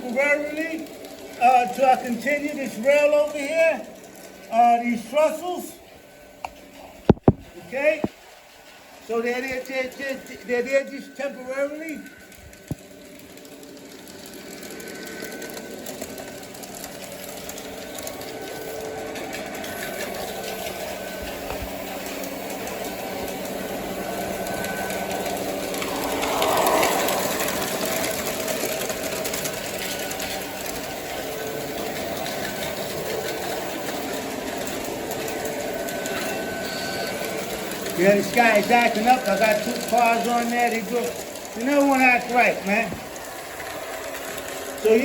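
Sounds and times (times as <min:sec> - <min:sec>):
model train motor whirring: 0:00.0 - 0:05.4, 0:09.1 - 0:45.0.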